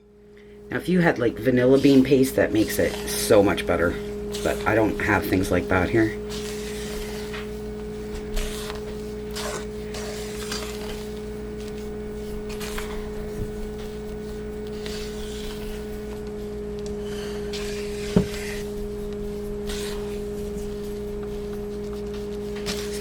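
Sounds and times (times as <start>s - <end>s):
steady hum: 0.0s - 23.0s
spatula scraping batter in bowl: 1.4s - 16.4s, 17.0s - 23.0s.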